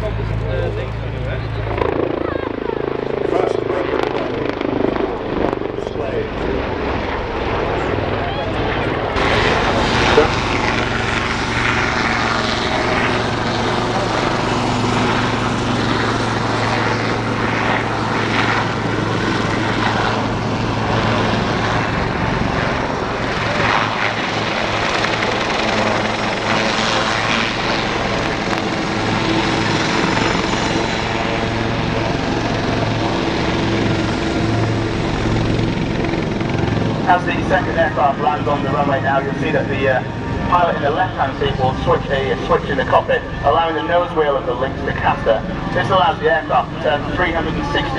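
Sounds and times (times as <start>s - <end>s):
helicopter rotors and turbines: 0.0s - 47.9s.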